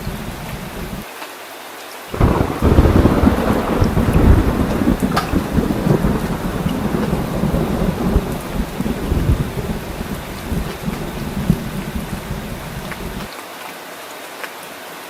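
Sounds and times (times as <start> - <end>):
rumble of thunder: 0.0 - 1.0, 2.2 - 13.3
heavy rain falling: 0.0 - 14.5.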